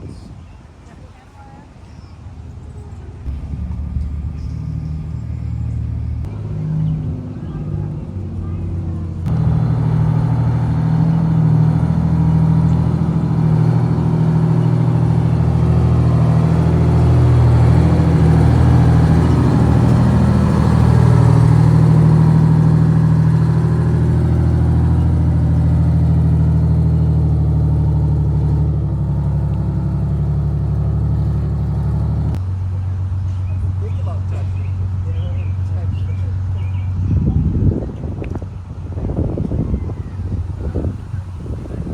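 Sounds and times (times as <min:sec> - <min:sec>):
large vehicle engine running: 0:02.3 - 0:41.9.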